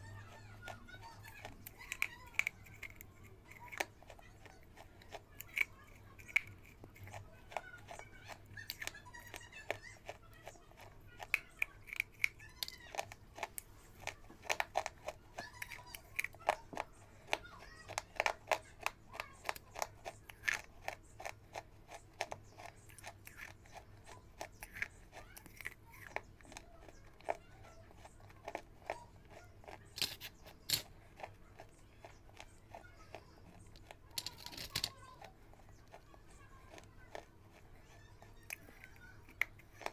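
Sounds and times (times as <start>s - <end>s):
biscuits crunching: 0.0s - 39.9s
chewing and mouth sounds: 0.0s - 39.9s.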